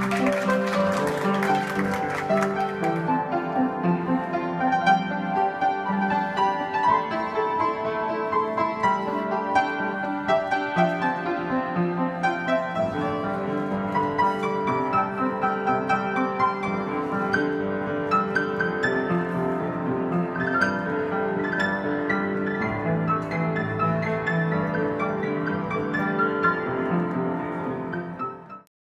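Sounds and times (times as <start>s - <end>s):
piano background music: 0.0s - 28.7s.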